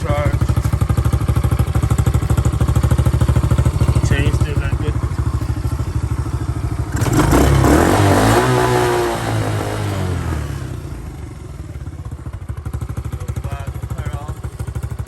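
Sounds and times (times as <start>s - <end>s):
atv engine idling and revving: 0.0s - 15.0s.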